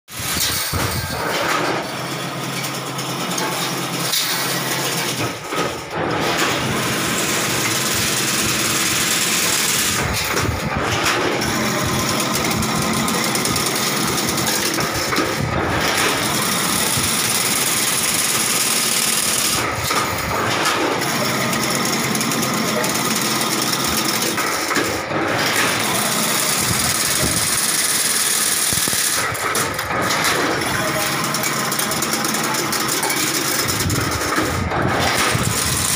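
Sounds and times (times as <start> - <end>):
fence weaving machine running: 0.1 - 35.9.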